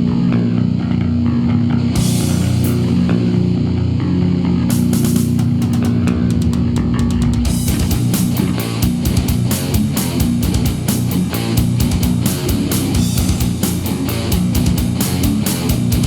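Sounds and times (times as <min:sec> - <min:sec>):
distorted electric guitars riffing: 0:00.0 - 0:16.0
fast metal drums: 0:02.0 - 0:03.6, 0:04.7 - 0:16.0.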